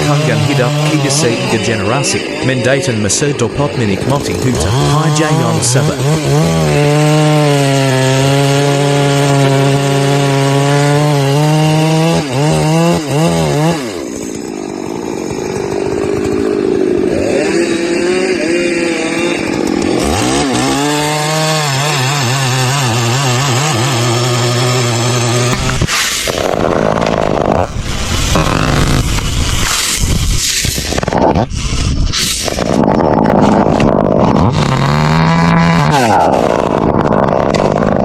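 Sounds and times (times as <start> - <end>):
chainsaw running at high speed: 0.0 - 38.0.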